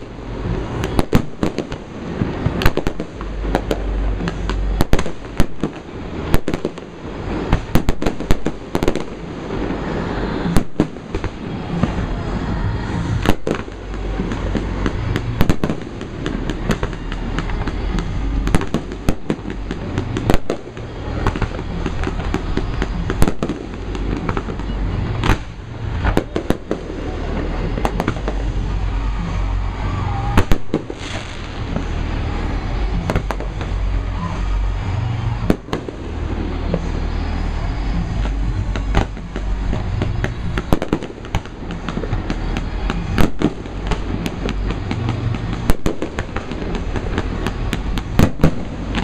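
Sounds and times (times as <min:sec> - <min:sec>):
low rumble and echo: 0:00.0 - 0:49.0.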